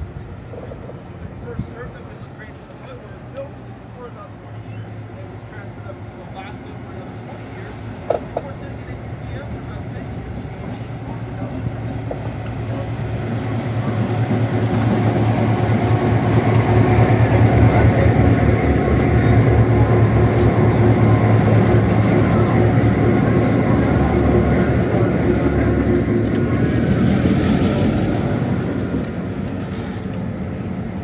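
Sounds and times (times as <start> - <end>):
locomotive diesel engine drone: 0.0 - 31.0.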